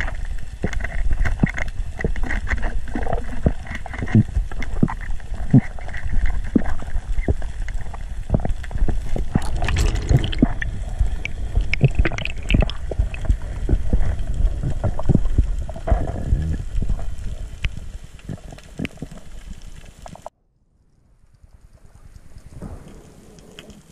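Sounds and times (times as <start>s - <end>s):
water swishing and gurgling underwater: 0.0s - 20.3s.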